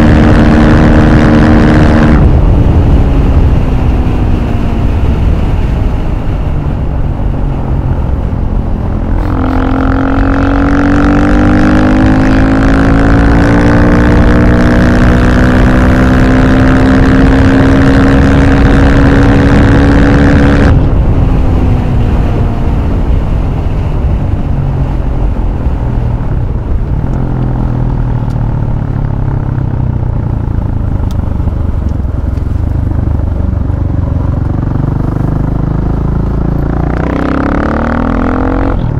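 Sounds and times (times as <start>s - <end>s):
motorcycle engine: 0.0s - 38.9s
wind rumble on microphone: 0.0s - 38.9s.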